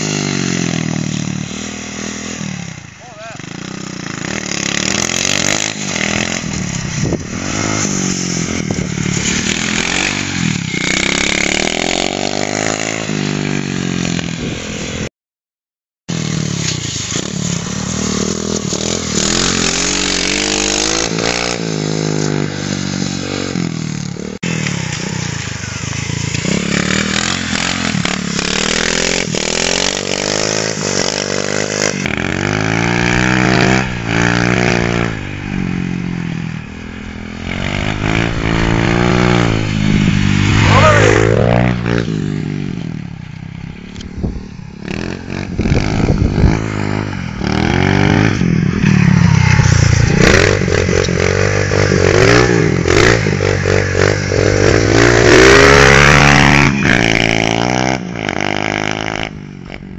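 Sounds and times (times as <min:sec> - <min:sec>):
pit bike engine revving: 0:00.0 - 0:15.1, 0:16.1 - 0:59.4.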